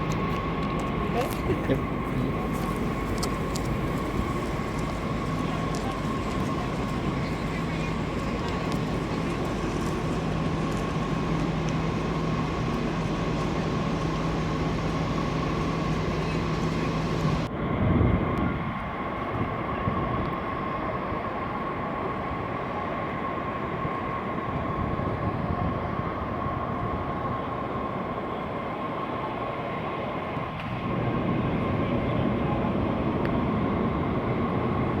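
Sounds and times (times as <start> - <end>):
city background rumble: 0.0 - 35.0
constant hum: 0.0 - 35.0.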